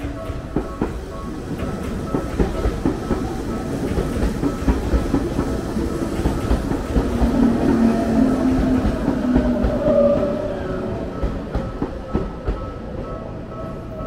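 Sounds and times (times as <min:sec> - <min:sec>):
train low rumble: 0:00.0 - 0:14.0
train wheels clattering: 0:00.0 - 0:14.0.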